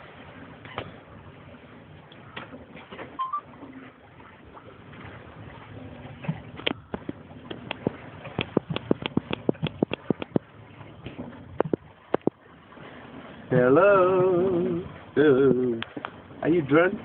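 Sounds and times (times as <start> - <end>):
yacht rushing through water: 0.0 - 17.0.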